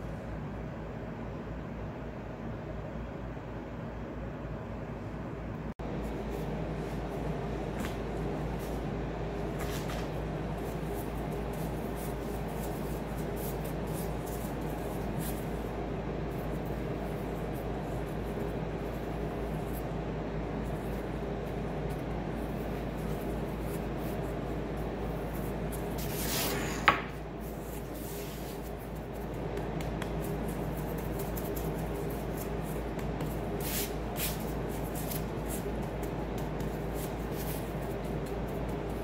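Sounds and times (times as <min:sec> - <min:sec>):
steady background hum: 0:00.0 - 0:39.0
gloved hands rubbing dough: 0:05.9 - 0:39.0.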